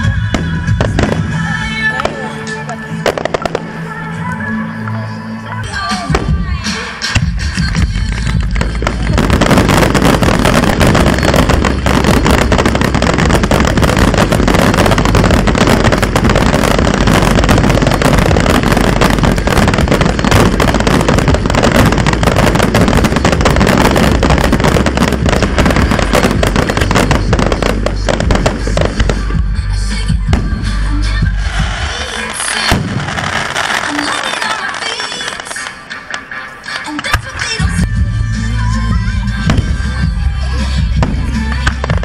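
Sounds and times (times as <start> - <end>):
fireworks crackling and banging: 0.0 - 42.0
music: 0.0 - 42.0.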